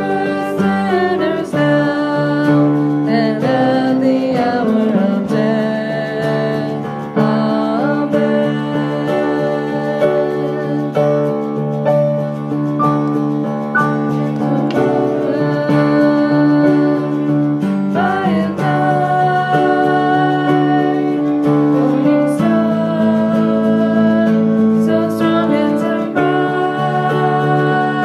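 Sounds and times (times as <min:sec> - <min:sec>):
person singing a hymn: 0:00.0 - 0:11.4, 0:14.2 - 0:28.0.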